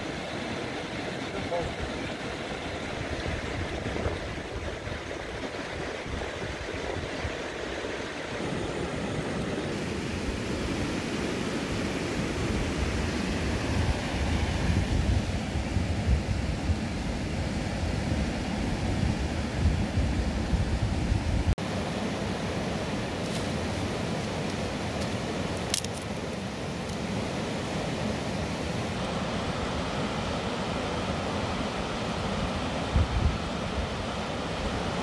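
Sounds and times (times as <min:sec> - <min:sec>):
river rushing: 0:00.0 - 0:19.8, 0:21.5 - 0:35.0.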